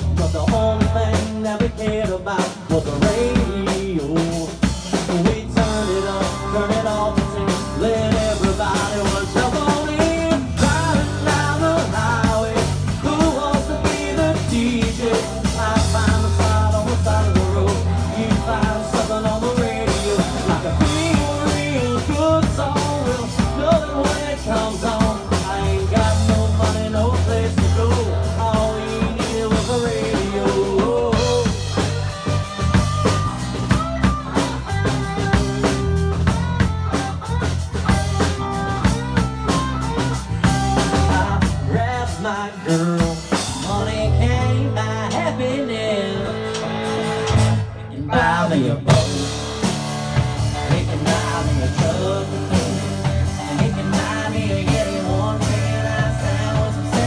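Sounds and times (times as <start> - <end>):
man singing: 0.0 - 36.4, 37.9 - 57.0
drum-kit beat: 0.0 - 44.5, 46.5 - 57.0
acoustic guitar: 0.0 - 57.0
electric guitar: 0.0 - 57.0.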